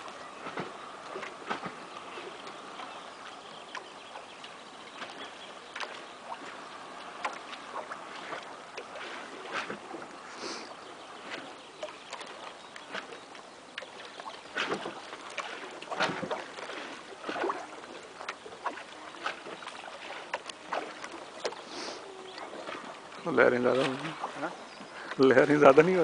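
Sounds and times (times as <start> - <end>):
lake water lapping and splashing: 0.0 - 26.0.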